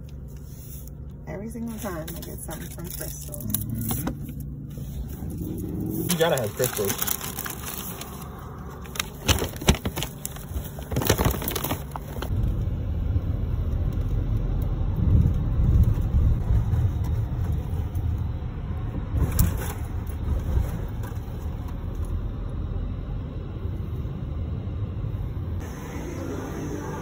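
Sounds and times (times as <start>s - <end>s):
car driving rumble inside cabin: 0.0s - 27.0s.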